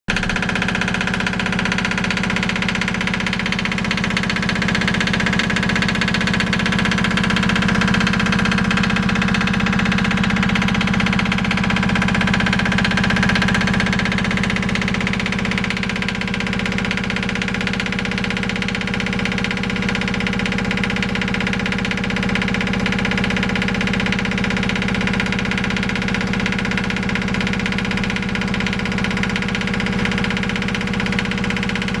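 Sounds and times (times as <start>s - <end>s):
diesel engine idling: 0.1s - 20.0s, 21.5s - 32.0s.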